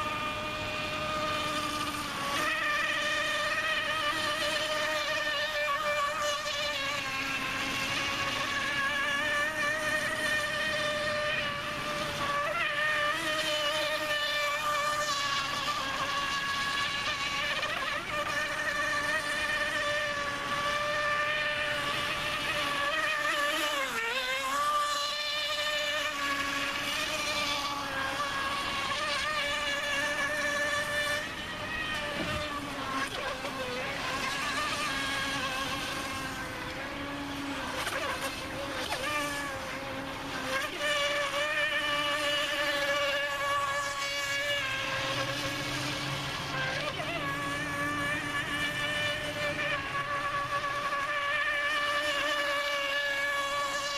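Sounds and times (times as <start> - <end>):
electric motor high whine: 0.0 - 53.9.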